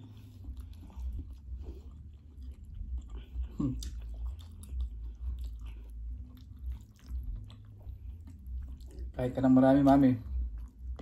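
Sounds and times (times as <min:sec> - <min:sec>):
chewing with smacks: 0:00.0 - 0:11.0
low steady hum: 0:00.0 - 0:11.0.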